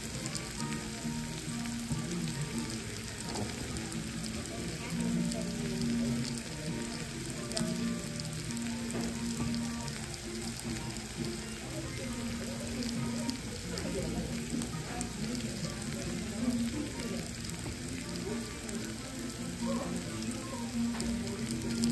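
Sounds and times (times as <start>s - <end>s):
fajitas sizzling on a skillet: 0.0s - 21.9s.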